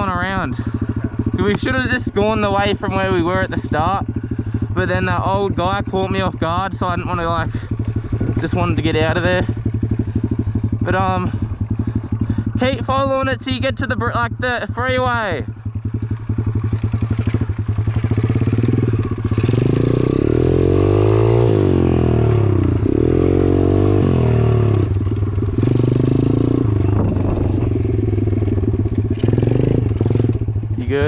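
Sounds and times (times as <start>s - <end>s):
bike rattling: 0.0s - 31.0s
dirt bike motor drone: 0.0s - 31.0s.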